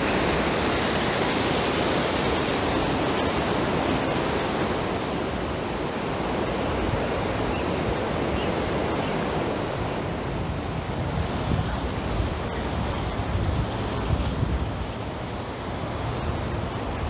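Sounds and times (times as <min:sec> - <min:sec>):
river water over rapids: 0:00.0 - 0:17.0
wind rumble on microphone: 0:00.0 - 0:17.0.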